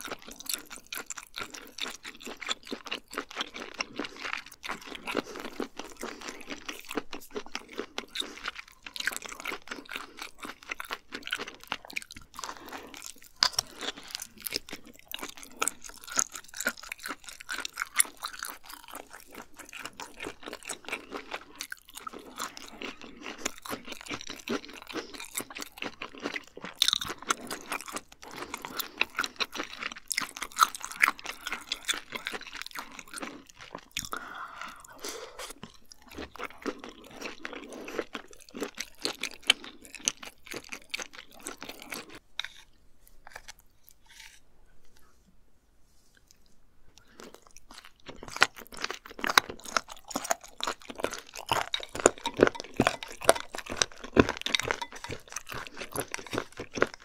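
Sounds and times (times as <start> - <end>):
wet crunchy chewing: 0.0 - 45.1, 46.1 - 57.0.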